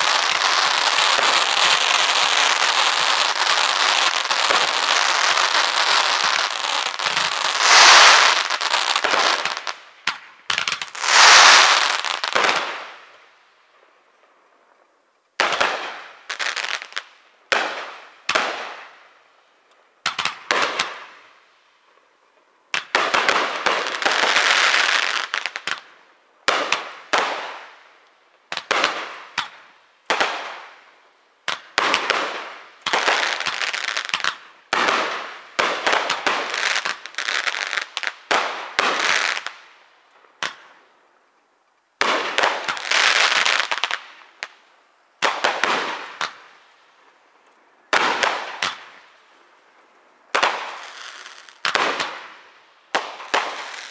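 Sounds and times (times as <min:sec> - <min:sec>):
firework crackling and rapid bangs: 0:00.0 - 0:13.3, 0:15.4 - 0:19.0, 0:20.0 - 0:21.4, 0:22.7 - 0:27.9, 0:28.5 - 0:40.8, 0:42.0 - 0:44.6, 0:45.2 - 0:46.6, 0:47.8 - 0:49.1, 0:50.3 - 0:53.9.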